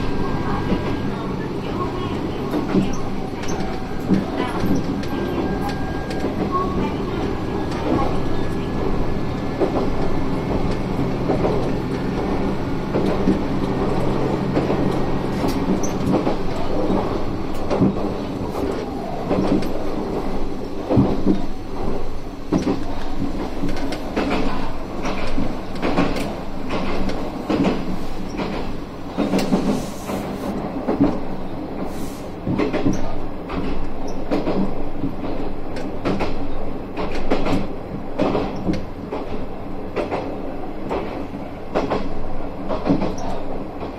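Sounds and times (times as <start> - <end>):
railcar engine drone: 0.0 - 43.9
train wheels clicking on track: 0.0 - 43.9.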